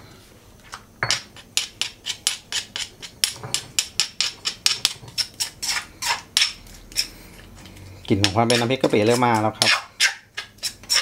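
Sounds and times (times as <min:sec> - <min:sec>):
utensil knocking stone mortar: 0:01.1 - 0:07.1, 0:08.1 - 0:11.0.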